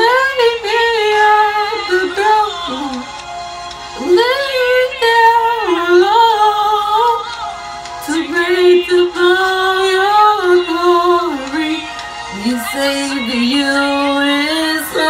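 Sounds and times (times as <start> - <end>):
person singing gospel song: 0.0 - 15.0.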